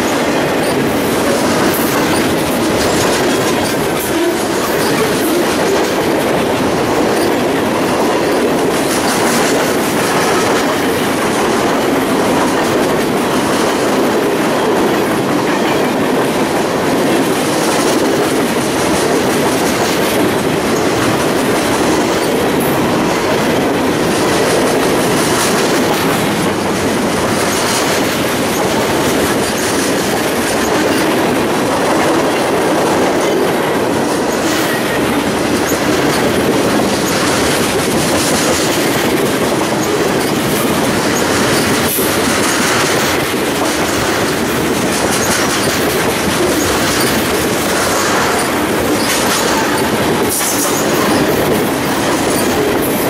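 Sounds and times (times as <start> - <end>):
train wheels rumbling on rails: 0.0 - 53.0
wheels clicking over rail joints: 0.0 - 53.0.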